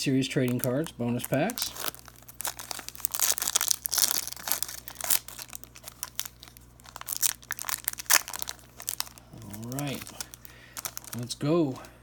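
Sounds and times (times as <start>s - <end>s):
wrapper crinkling and tearing: 0.3s - 11.9s.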